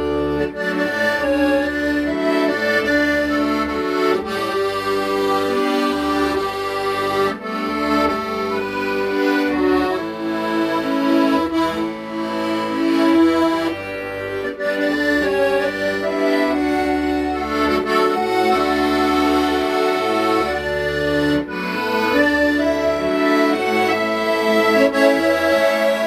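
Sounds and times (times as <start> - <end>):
accordion melody: 0.0 - 26.0
bass accompaniment: 0.0 - 26.0.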